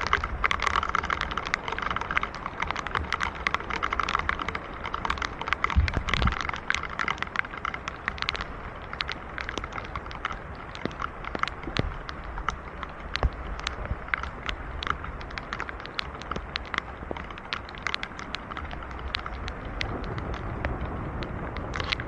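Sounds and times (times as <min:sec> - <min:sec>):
rain hiss: 0:00.0 - 0:22.0
raindrops ticking: 0:00.0 - 0:22.0.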